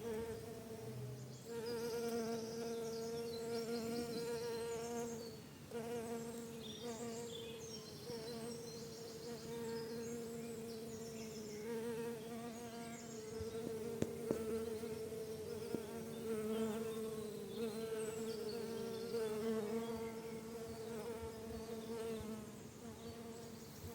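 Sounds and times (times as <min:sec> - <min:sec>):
bees buzzing: 0:00.0 - 0:07.3, 0:08.1 - 0:23.9.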